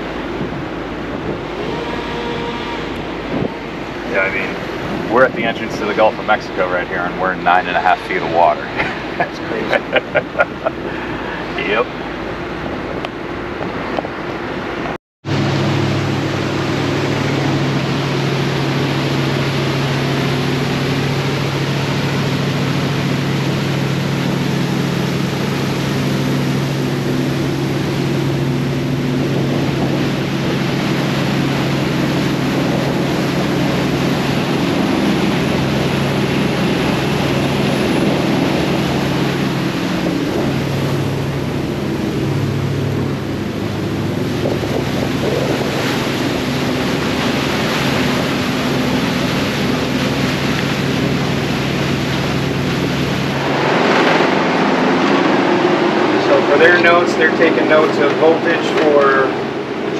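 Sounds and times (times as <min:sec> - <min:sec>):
boat engine drone: 0:00.0 - 0:59.9
wake rushing: 0:00.0 - 0:59.9
wind: 0:00.0 - 0:59.9.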